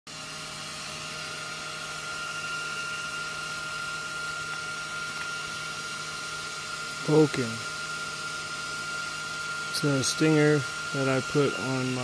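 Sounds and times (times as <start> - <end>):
machine hum with high whine: 0.1 - 12.0.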